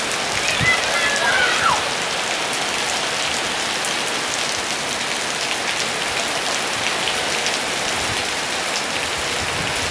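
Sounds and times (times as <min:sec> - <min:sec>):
heavy rain on pavement: 0:00.0 - 0:09.9
rain drops ticking: 0:00.0 - 0:09.9.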